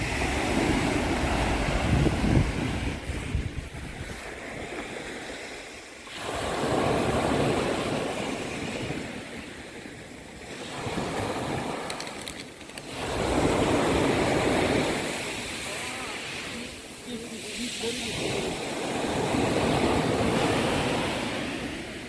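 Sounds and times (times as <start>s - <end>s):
sea waves washing onto shore: 0.0s - 22.0s.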